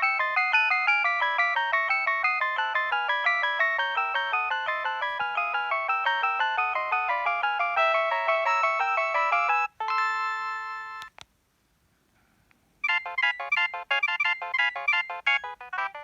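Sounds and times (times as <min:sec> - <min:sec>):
phone ringtone melody: 0:00.0 - 0:11.1, 0:12.8 - 0:16.0.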